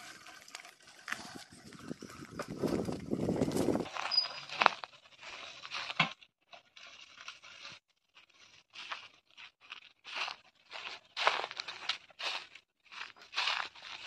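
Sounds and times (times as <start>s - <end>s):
footsteps crunching dry leaves: 0.0s - 14.0s.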